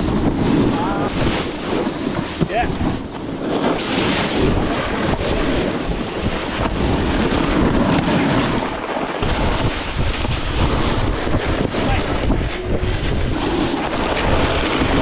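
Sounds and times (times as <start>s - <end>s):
snowboard edges scraping snow: 0.0s - 15.0s
wind rushing over microphone: 0.0s - 15.0s.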